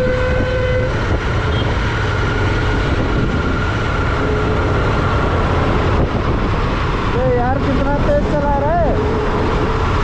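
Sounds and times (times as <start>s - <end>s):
wind and road rumble: 0.0s - 10.0s.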